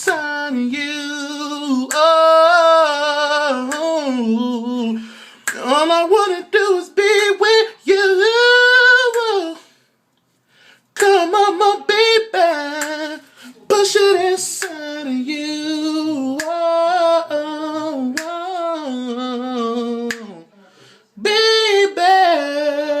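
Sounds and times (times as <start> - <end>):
person singing unaccompanied: 0.0 - 9.7, 11.0 - 20.5, 21.2 - 23.0.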